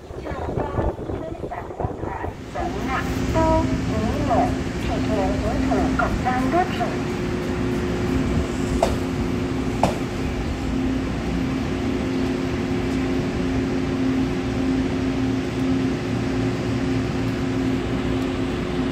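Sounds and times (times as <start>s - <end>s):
electric train humming: 0.0s - 18.9s.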